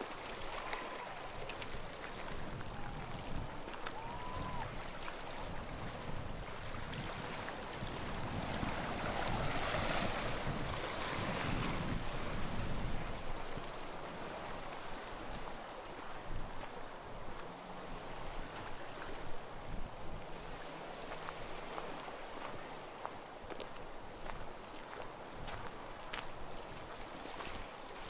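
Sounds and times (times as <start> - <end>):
wind on microphone: 0.0 - 22.8
sea waves washing onto shore: 0.0 - 28.0.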